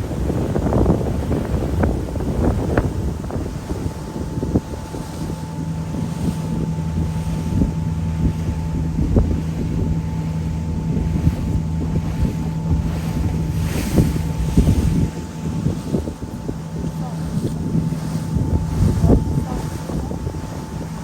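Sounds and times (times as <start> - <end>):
boat engine drone: 0.0 - 21.0
wind buffeting microphone: 0.0 - 21.0.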